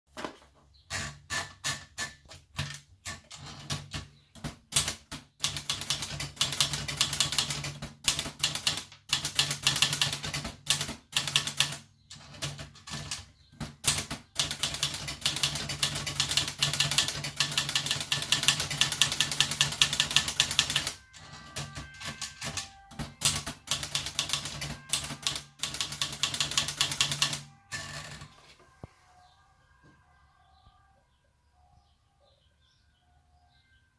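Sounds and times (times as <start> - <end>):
manual typewriter typing: 0.9 - 28.4.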